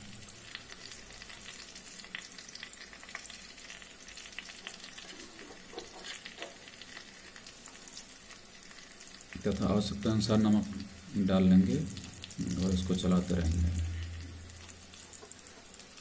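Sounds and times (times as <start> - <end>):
onion masala sizzling in oil: 0.0 - 16.0.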